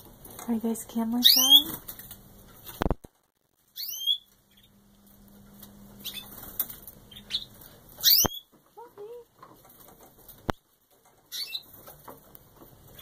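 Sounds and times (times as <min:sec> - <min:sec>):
canaries chirping: 0:00.9 - 0:02.8, 0:03.5 - 0:13.0.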